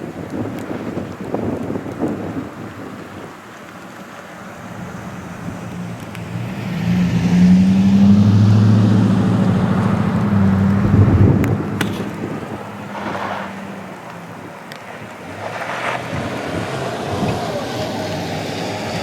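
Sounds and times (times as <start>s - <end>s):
wind buffeting: 0.0s - 19.0s
vehicle engine drone: 3.6s - 19.0s.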